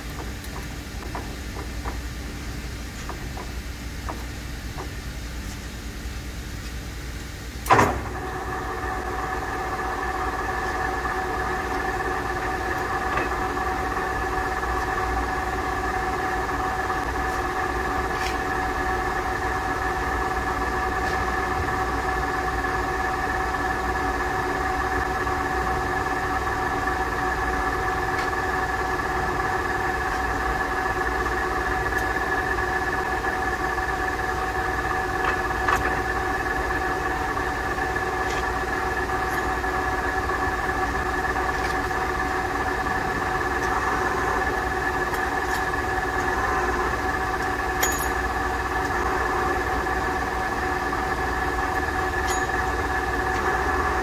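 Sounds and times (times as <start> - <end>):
lathe running with gear whine: 0.0 - 54.0.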